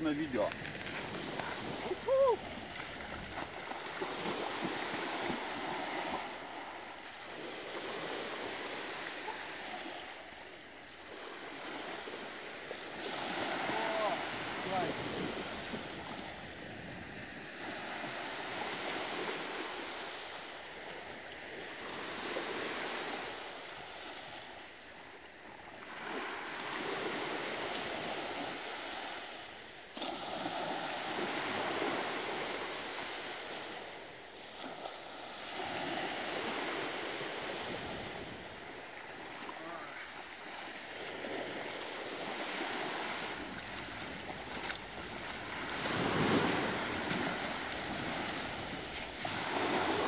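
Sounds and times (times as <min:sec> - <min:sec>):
small waves washing ashore: 0:00.0 - 0:50.0.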